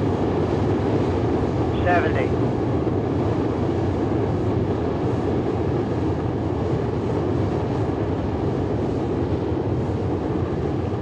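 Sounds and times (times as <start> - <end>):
rocket engine roaring: 0.0 - 11.0.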